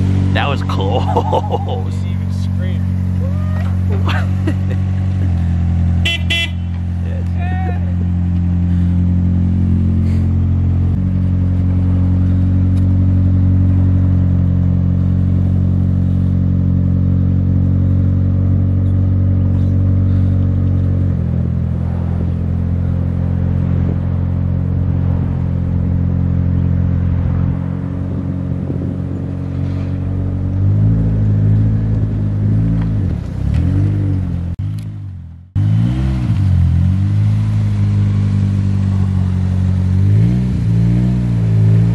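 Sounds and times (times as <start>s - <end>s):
car engine running and revving: 0.0s - 41.9s.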